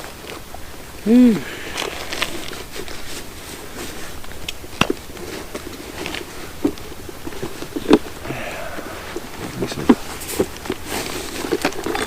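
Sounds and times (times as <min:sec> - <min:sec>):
soft rustling: 0:00.0 - 0:12.0.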